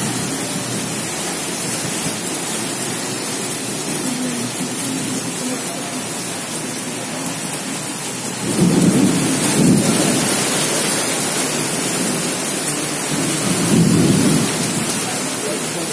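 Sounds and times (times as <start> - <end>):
heavy rain pouring: 0.0 - 15.9.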